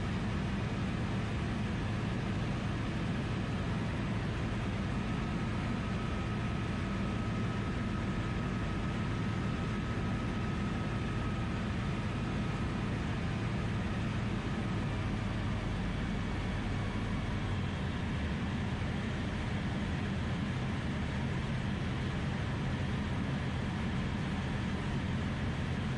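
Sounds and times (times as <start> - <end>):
engine and propeller drone: 0.0 - 25.9.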